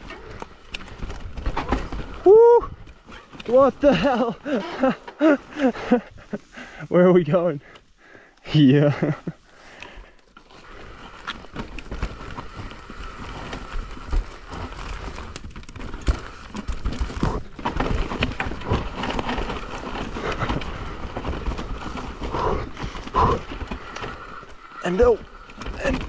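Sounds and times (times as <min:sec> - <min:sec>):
bike rattling and knocking: 0:00.0 - 0:06.8, 0:07.6 - 0:26.0
bike tyres grinding on rock: 0:00.0 - 0:07.4, 0:08.1 - 0:26.0.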